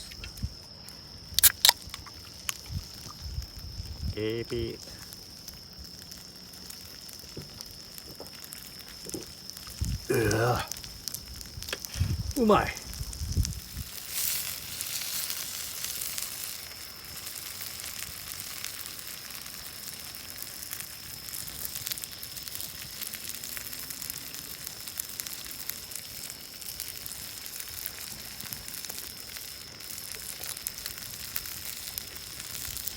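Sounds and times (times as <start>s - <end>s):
shrimp sizzling: 1.4s - 3.6s, 4.5s - 32.9s.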